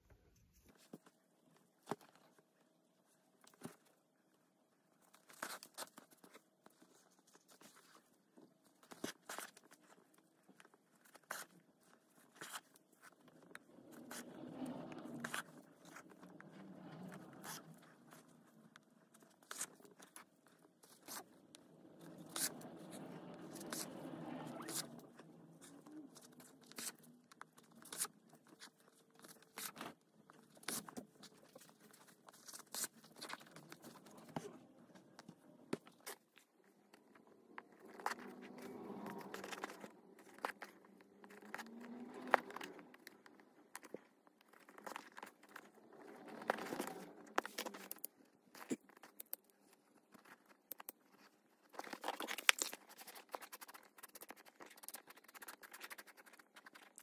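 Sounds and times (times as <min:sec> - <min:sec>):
needle and thread through leather: 0:04.9 - 0:57.0.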